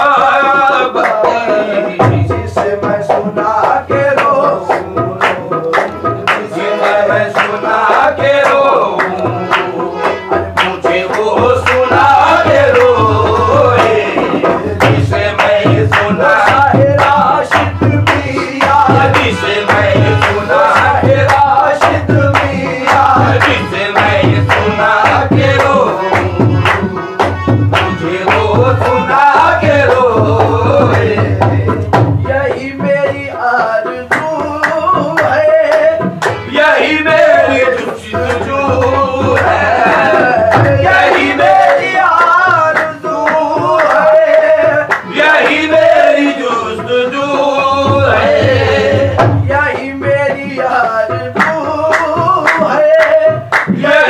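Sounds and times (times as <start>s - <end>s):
harmonium: 0.0s - 54.0s
man singing devotional song: 0.0s - 54.0s
steady drum beat: 0.0s - 54.0s
hand-clapping: 0.6s - 46.4s, 49.2s - 54.0s.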